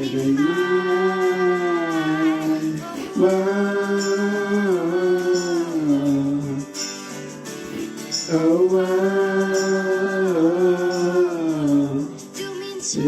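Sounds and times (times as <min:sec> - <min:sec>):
person singing long notes: 0:00.0 - 0:06.8, 0:07.7 - 0:13.0
pop song by small band: 0:00.0 - 0:13.0.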